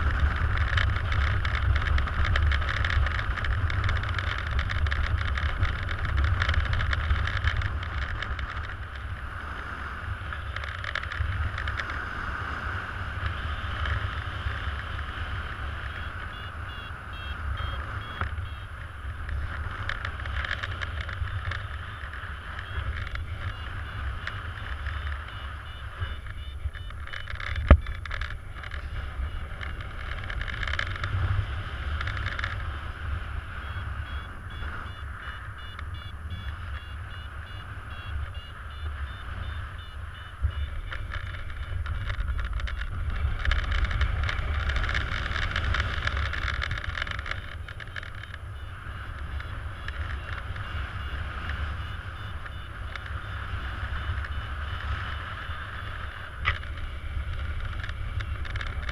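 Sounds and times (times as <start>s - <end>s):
variometer beeping: 0.0s - 58.9s
wind rushing over microphone: 0.0s - 58.9s.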